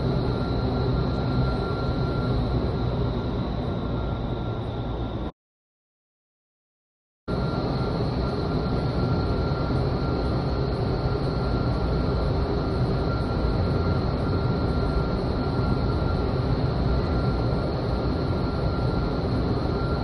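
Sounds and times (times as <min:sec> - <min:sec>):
faint thin whining tones: 0:00.0 - 0:05.3, 0:07.4 - 0:20.0.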